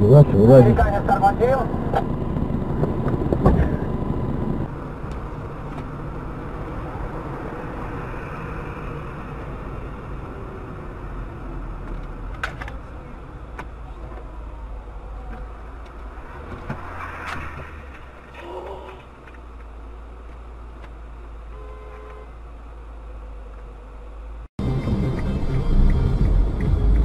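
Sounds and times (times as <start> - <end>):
car engine humming: 0.0 - 27.0.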